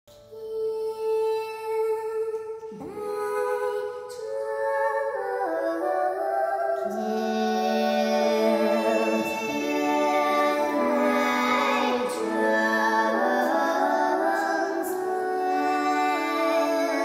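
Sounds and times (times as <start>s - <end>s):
slow melody of held notes: 0.2s - 17.0s.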